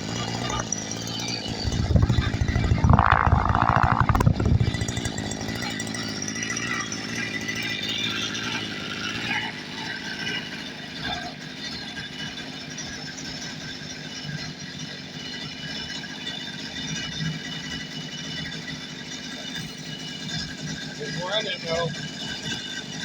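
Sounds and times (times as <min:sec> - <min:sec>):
small two-stroke engine running: 0:00.0 - 0:23.0.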